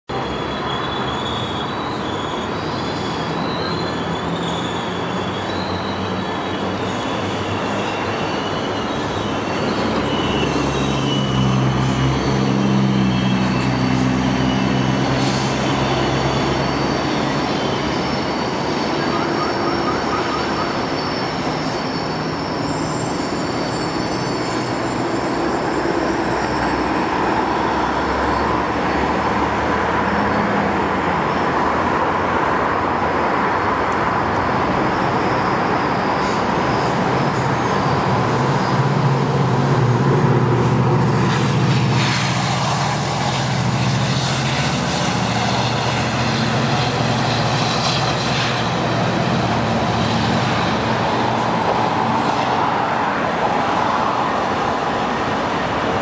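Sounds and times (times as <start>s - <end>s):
wheel squeals: 0.1s - 30.6s, 34.2s - 54.2s
train rumbling on rails: 0.1s - 56.0s
diesel engine drone: 7.6s - 52.7s.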